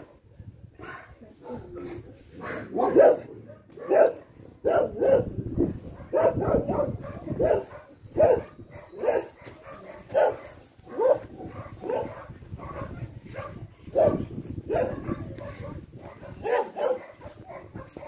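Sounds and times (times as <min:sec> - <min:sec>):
dog barking: 0:00.8 - 0:18.0.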